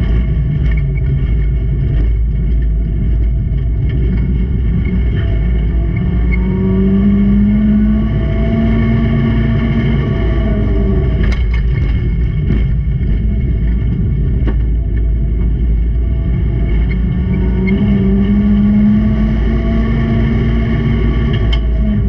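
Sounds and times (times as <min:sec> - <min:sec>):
racing car engine running hard: 0:00.0 - 0:22.0.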